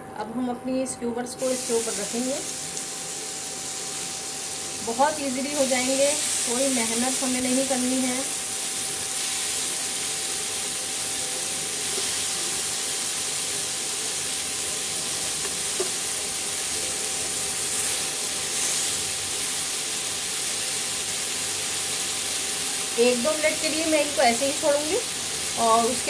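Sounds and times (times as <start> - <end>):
skewers sizzling in a pan: 1.4 - 26.0.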